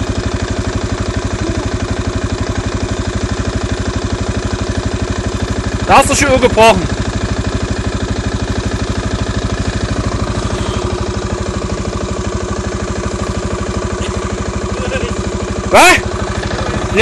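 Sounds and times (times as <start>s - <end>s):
atv engine idling: 0.0s - 17.0s.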